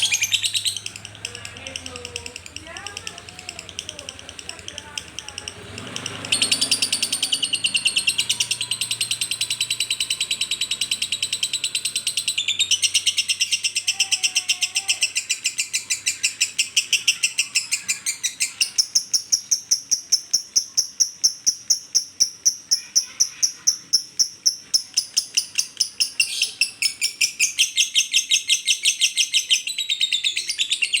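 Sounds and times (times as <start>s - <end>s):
lovebird chattering high chirps: 0.0s - 31.0s.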